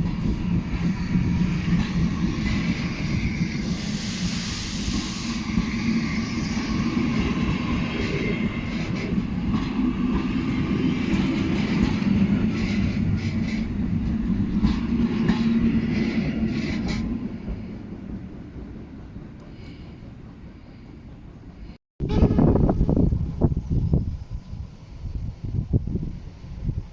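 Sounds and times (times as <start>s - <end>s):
train rumbling past: 0.0s - 26.9s.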